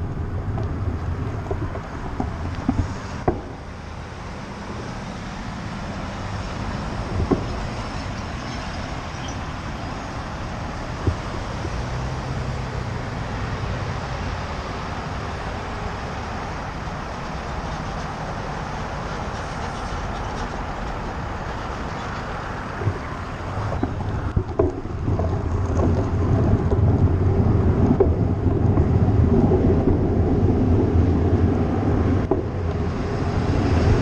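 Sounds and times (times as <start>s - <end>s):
bicycle road noise: 0.0s - 34.0s
wind noise: 0.0s - 34.0s.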